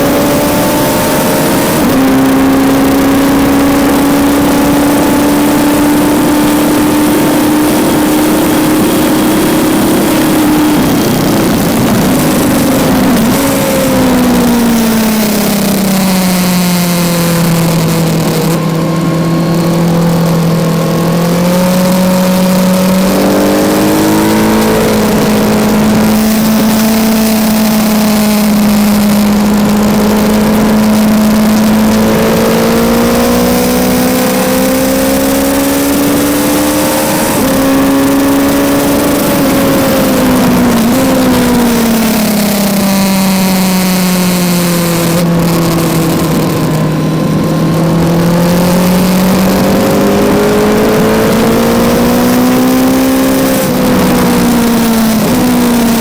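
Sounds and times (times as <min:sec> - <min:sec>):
motorcycle engine revving: 0:00.0 - 0:56.0
wind rush over microphone: 0:00.0 - 0:56.0.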